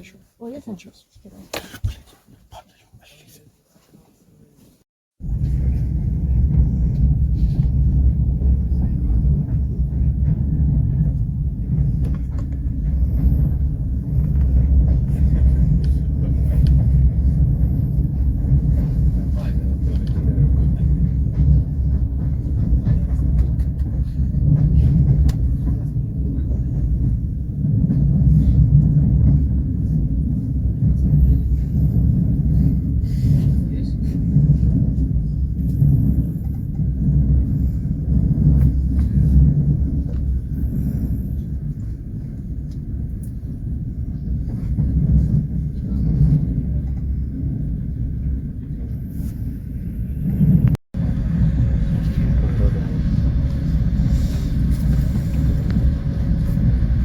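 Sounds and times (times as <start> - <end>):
train rumbling: 5.2 - 57.0.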